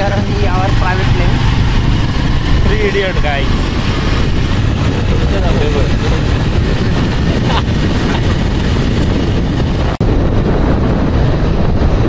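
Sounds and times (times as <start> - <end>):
vehicle running noise: 0.0 - 12.0
wind rushing over microphone: 0.0 - 12.0.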